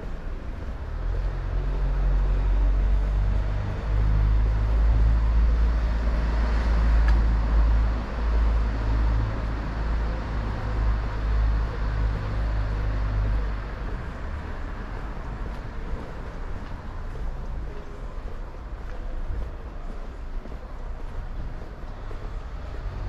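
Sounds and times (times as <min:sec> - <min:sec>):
city street traffic: 0:00.0 - 0:23.0
low rumble of motor vehicle: 0:00.0 - 0:23.0.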